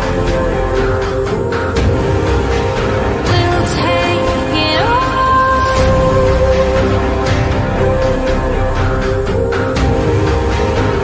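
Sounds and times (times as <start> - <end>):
song with held notes and bass: 0.0 - 11.0.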